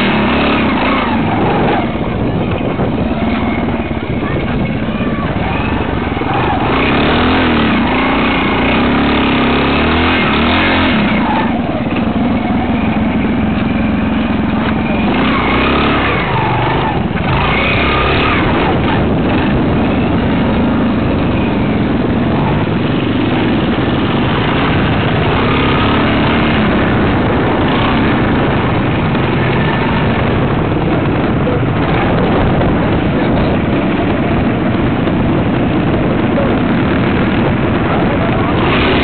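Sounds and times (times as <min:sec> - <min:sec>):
motorcycle engine rumbling: 0:00.0 - 0:39.0.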